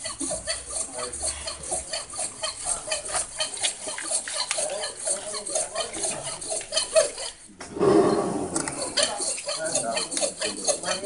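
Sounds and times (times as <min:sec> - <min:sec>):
saw scraping through ivory: 0:00.0 - 0:11.0.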